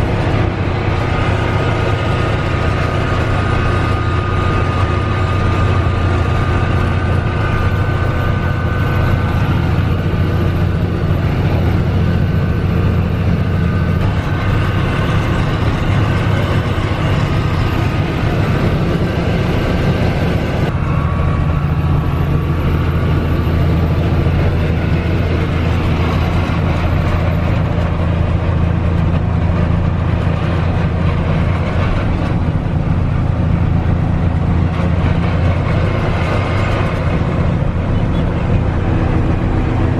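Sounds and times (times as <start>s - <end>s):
diesel truck engine droning: 0.0s - 39.9s
road noise: 0.0s - 39.9s.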